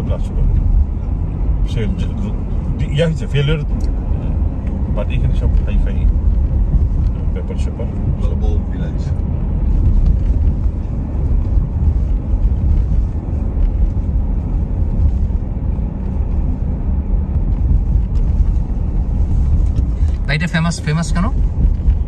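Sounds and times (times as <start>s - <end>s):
car driving heard from inside: 0.0s - 22.0s.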